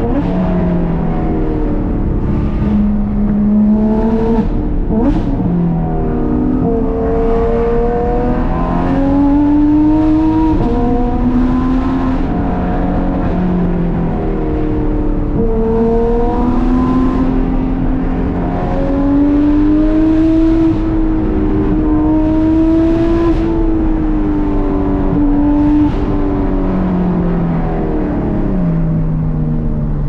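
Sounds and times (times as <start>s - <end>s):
sports car engine revving: 0.0s - 30.0s.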